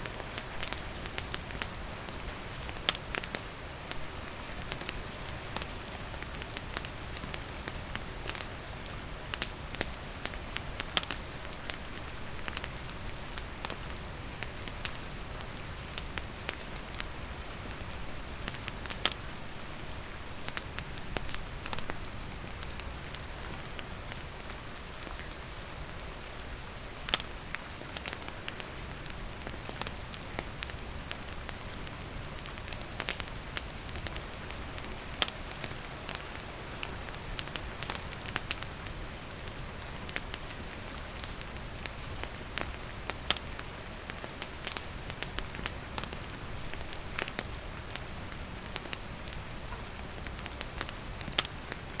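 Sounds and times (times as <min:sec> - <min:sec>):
campfire crackling: 0:00.0 - 0:52.0
rain falling: 0:00.0 - 0:52.0.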